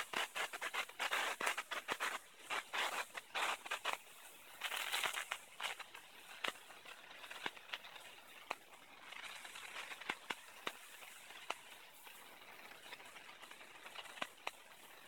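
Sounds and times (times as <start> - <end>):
fireworks hissing: 0.0 - 15.0
fireworks popping and crackling: 0.0 - 15.0.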